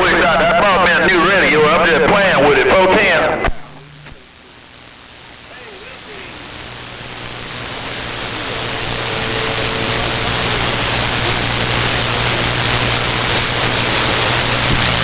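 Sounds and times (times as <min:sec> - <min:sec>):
low hum: 0:00.0 - 0:15.0
radio static hiss: 0:00.0 - 0:15.0.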